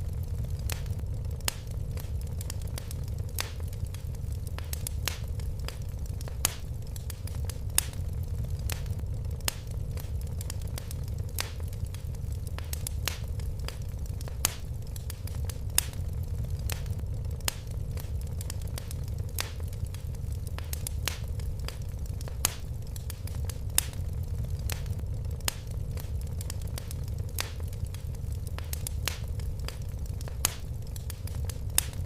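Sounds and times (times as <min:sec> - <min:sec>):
fire popping and snapping: 0:00.0 - 0:32.0
low roar of flames: 0:00.0 - 0:32.0.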